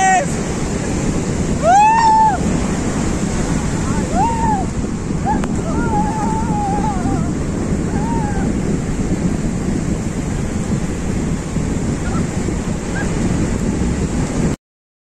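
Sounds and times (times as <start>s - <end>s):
sea surf breaking on beach: 0.0s - 14.6s
wind buffeting microphone: 0.0s - 14.6s.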